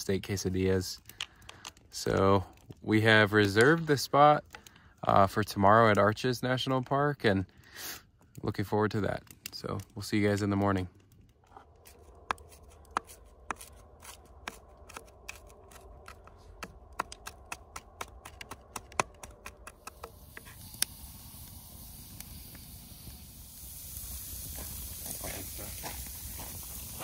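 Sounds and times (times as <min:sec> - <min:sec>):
steak sizzling over campfire: 0:00.0 - 0:18.0, 0:18.7 - 0:27.0.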